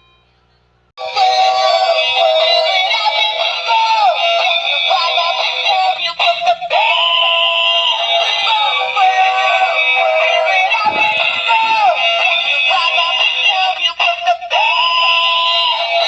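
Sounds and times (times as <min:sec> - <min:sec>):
synthetic singing voice: 0:01.0 - 0:16.0
toy speaker playing electronic song: 0:01.0 - 0:16.0.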